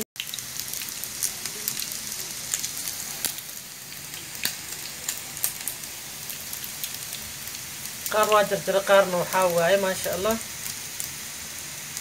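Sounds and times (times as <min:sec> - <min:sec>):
sausages sizzling in a frying pan: 0:00.0 - 0:12.0.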